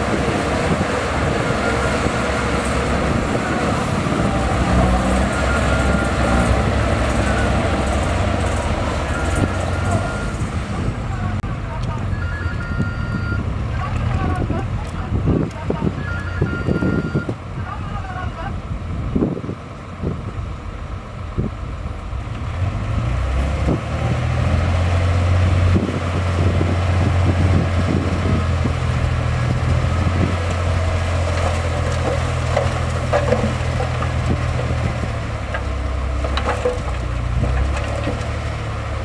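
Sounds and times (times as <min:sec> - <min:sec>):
heavy diesel engine running: 0:00.0 - 0:19.2, 0:19.9 - 0:39.0.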